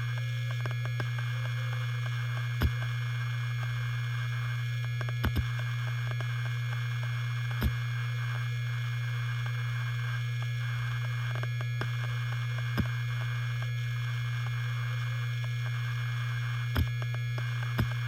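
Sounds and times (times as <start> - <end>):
hard disk spinning hum and whine: 0.0 - 18.0
hard disk seek clicks: 0.1 - 8.0, 10.3 - 18.0.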